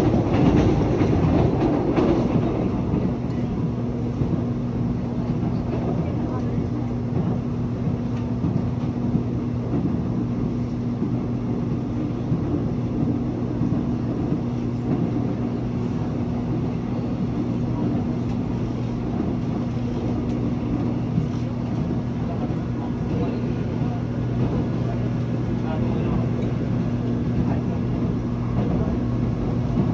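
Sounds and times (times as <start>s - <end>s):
train wheels rumbling on track: 0.0s - 29.9s.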